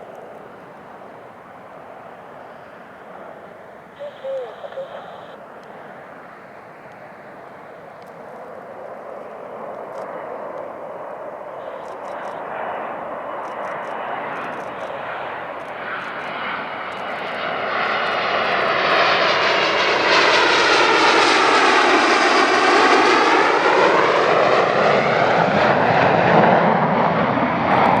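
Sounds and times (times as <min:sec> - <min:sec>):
jet plane passing: 0:00.0 - 0:28.0.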